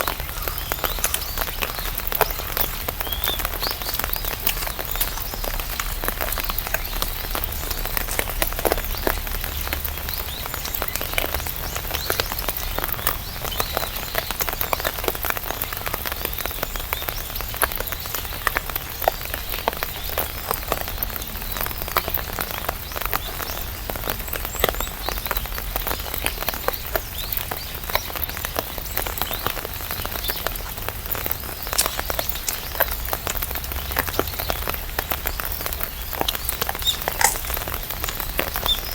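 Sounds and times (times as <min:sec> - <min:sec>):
rain drops ticking on umbrella: 0:00.0 - 0:38.9
rain hiss: 0:00.0 - 0:38.9.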